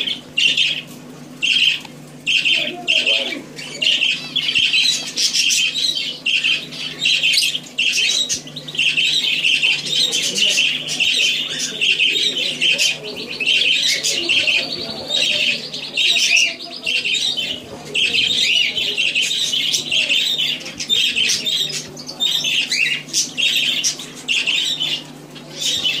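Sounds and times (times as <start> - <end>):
budgerigar chirping and squawking: 0.0 - 26.0.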